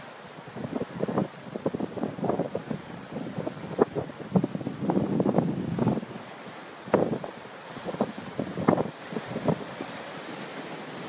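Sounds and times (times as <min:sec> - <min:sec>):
surf breaking over rocks: 0:00.0 - 0:11.0
wind buffeting microphone: 0:00.4 - 0:11.0.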